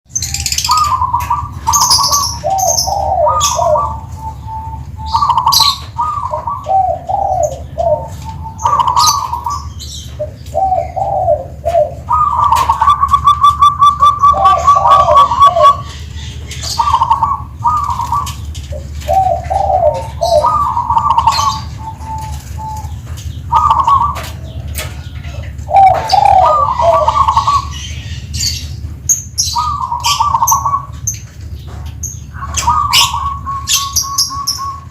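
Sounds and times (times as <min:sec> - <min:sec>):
rapid rolling bird trill: 0:00.1 - 0:34.9
dove cooing: 0:00.2 - 0:34.9.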